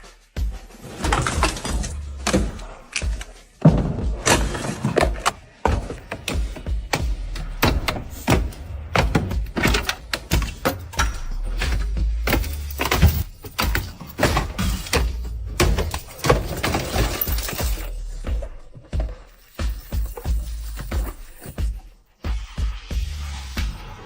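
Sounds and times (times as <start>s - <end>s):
knocks and clanks: 0.8s - 21.9s.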